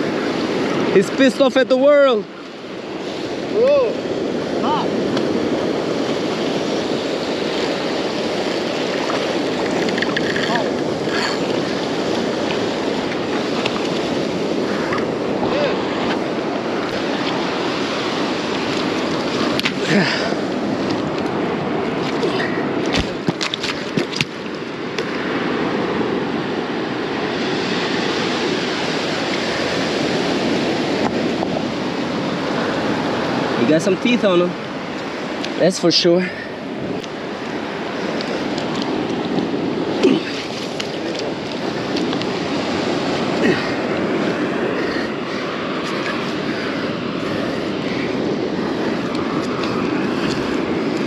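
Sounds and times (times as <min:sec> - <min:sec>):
ocean surf washing ashore: 0:00.0 - 0:51.0
wind on microphone: 0:00.0 - 0:51.0.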